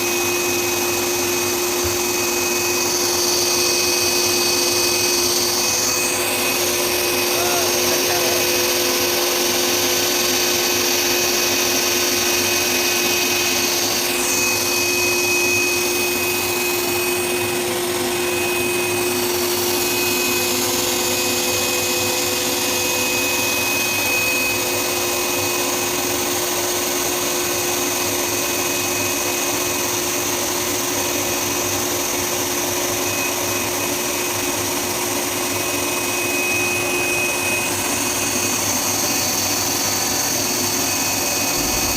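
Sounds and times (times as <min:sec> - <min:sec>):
high whine: 0:00.0 - 0:25.7, 0:33.0 - 0:41.9
cutting machine whirring: 0:00.0 - 0:41.9.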